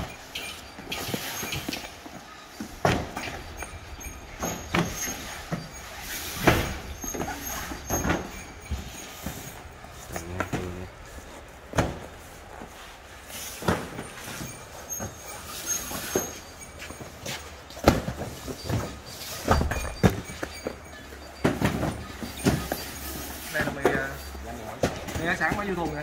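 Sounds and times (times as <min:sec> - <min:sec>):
cardboard cartons thudding: 0:01.0 - 0:03.6, 0:04.3 - 0:12.8, 0:13.4 - 0:15.3, 0:15.9 - 0:26.0.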